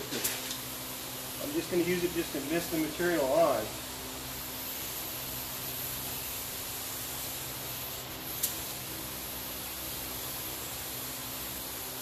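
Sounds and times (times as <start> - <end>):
spray gun air hissing: 0.0 - 12.0.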